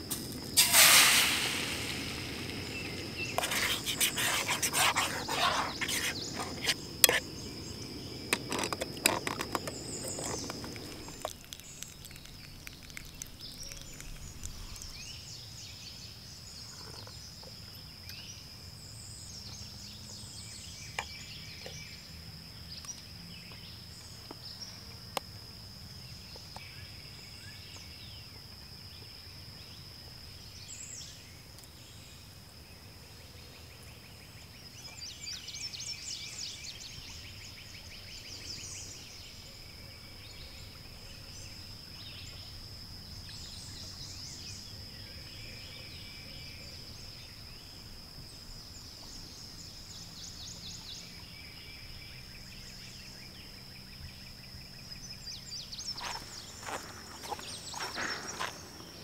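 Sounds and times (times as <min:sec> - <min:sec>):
birds singing: 0:01.4 - 0:24.9, 0:29.6 - 0:59.0.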